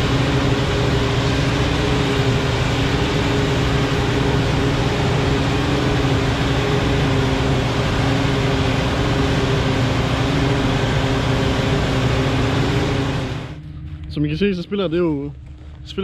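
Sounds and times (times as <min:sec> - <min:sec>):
forage harvester machine drone: 0:00.0 - 0:16.0
steady hum: 0:00.0 - 0:16.0.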